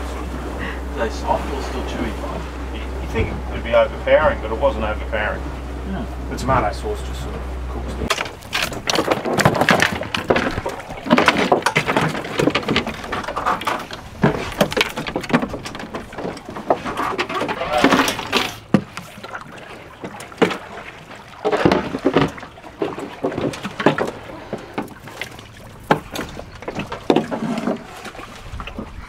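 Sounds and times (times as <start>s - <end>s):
water slapping against boat: 0.0s - 29.0s.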